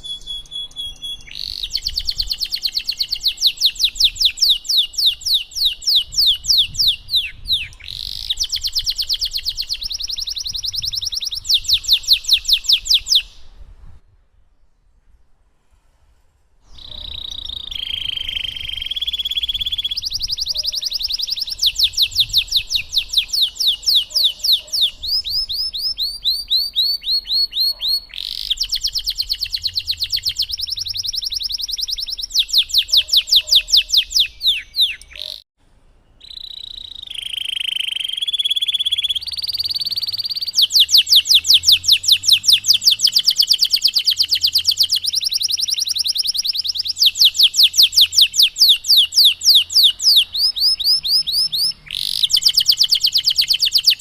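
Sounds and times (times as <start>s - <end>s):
canary singing trills: 0.0s - 13.6s, 16.7s - 35.5s, 36.2s - 54.0s.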